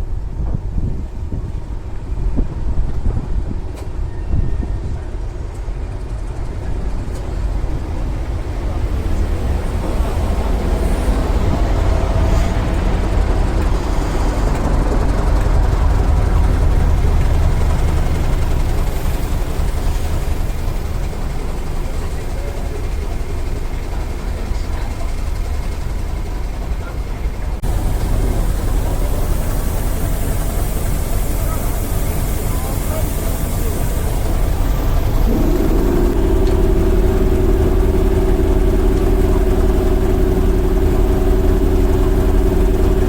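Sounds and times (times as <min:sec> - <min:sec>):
train rumbling: 0:00.0 - 0:43.0.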